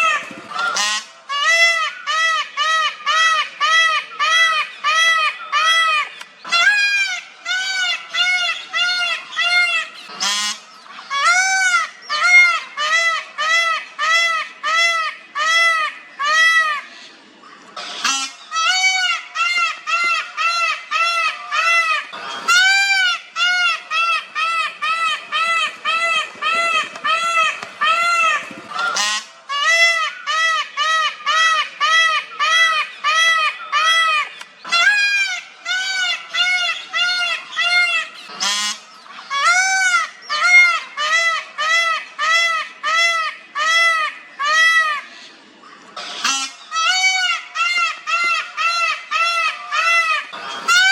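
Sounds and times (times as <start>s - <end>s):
peacock calling: 0.0s - 50.9s.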